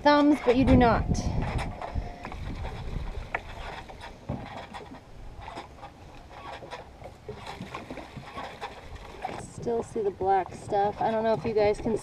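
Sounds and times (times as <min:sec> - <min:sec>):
plastic knocks and scrapes: 0:00.2 - 0:09.8.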